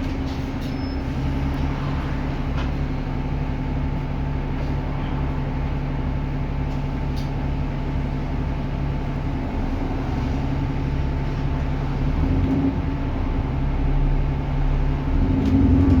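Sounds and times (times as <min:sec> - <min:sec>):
diesel bus engine running: 0:00.0 - 0:16.0.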